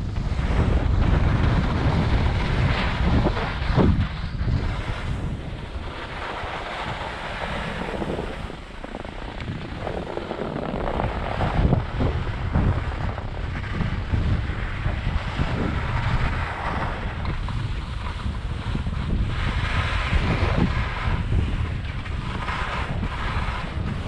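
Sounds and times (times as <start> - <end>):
skis sliding over snow: 0.0 - 24.0
wind on microphone: 0.0 - 24.0.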